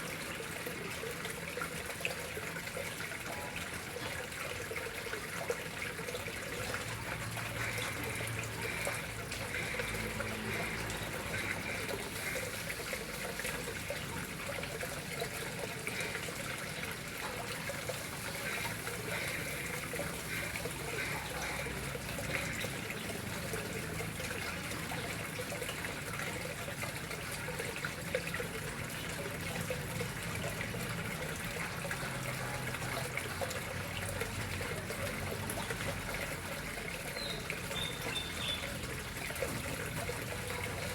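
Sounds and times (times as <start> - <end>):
water splashing into pond: 0.0 - 40.9.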